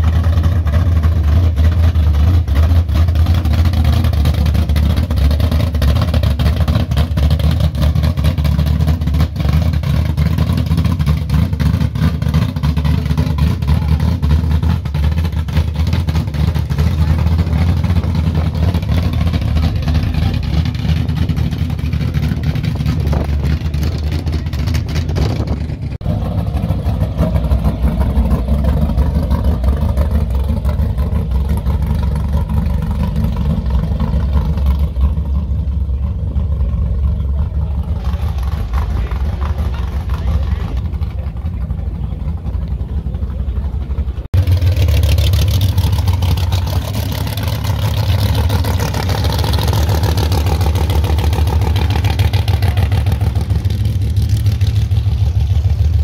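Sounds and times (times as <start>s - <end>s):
car engines rumbling: 0.0s - 56.0s.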